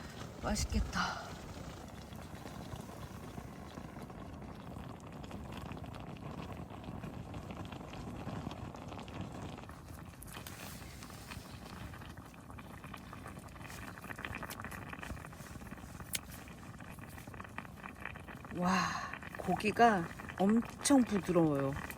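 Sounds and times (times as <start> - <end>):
stew bubbling in a pot: 0.0 - 21.9.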